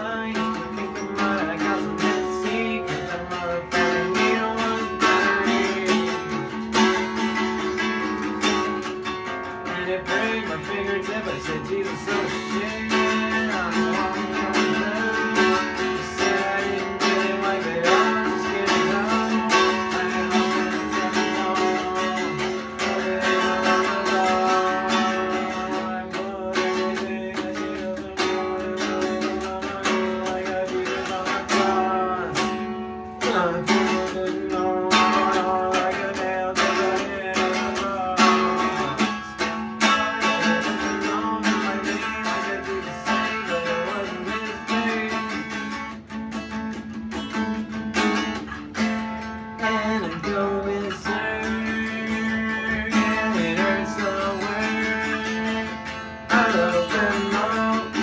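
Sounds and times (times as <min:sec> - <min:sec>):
electric guitar picking and strumming: 0:00.0 - 0:58.0.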